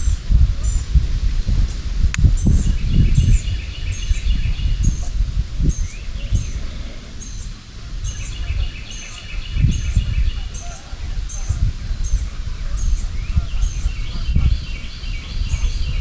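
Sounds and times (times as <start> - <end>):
songbird singing rapid trills: 0.0 - 16.0
steady low rumble: 0.0 - 16.0.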